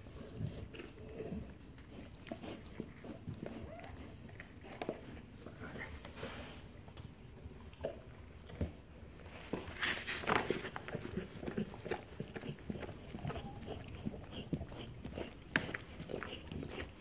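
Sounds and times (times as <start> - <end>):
dog licking puppy: 0.0 - 6.2, 6.8 - 17.0.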